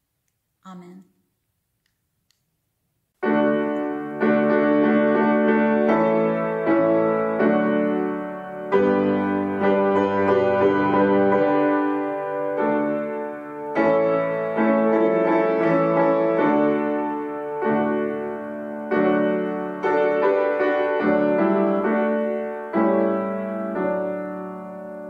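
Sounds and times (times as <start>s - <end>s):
slow piano chords: 3.2s - 25.0s.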